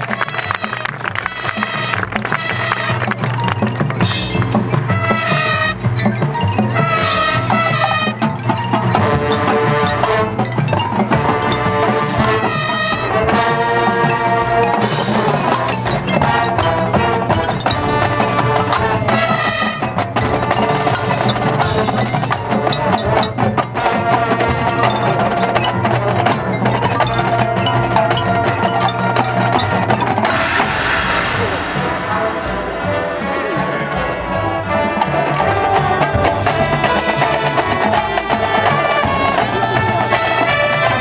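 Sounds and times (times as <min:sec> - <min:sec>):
drums playing: 0:00.0 - 0:41.0
held chords: 0:00.0 - 0:41.0
mallet percussion: 0:00.0 - 0:41.0.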